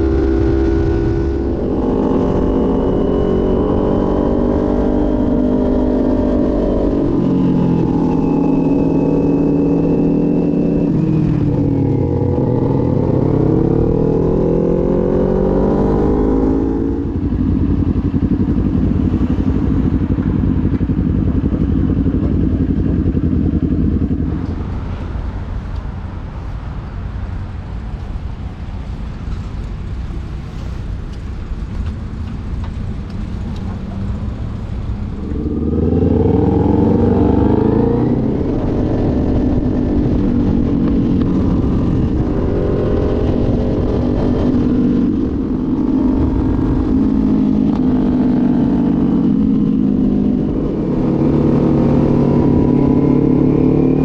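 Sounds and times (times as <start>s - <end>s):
motorcycle engine revving: 0.0s - 24.5s, 33.2s - 54.0s.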